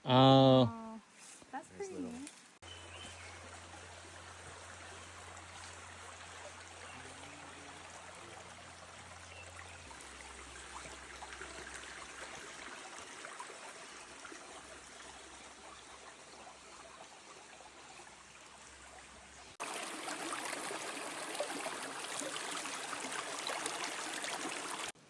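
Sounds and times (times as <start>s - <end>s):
stream trickling over rocks: 1.5s - 25.0s.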